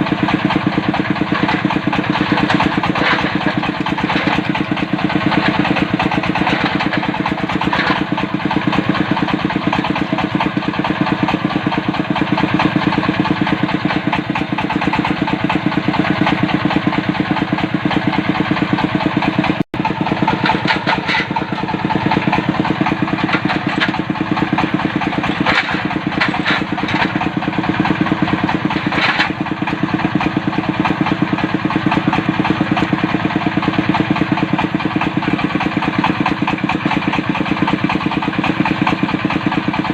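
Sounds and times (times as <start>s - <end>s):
drilling rig diesel engine: 0.0s - 39.9s.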